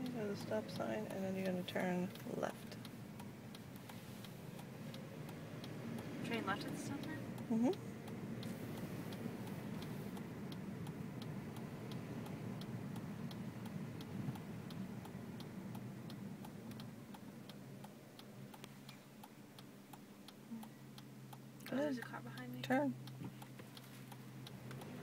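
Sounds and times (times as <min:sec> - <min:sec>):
moving car hum: 0:00.0 - 0:25.0
turn signal ticking: 0:00.0 - 0:25.0.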